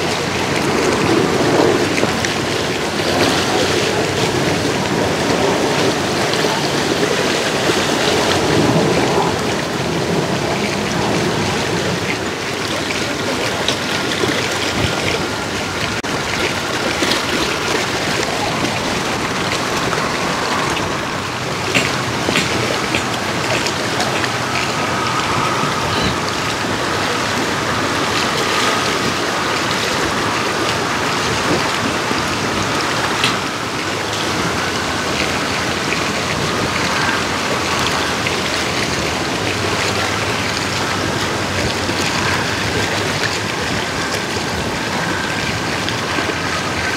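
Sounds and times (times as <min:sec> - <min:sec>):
water lapping against docks: 0:00.0 - 0:46.9.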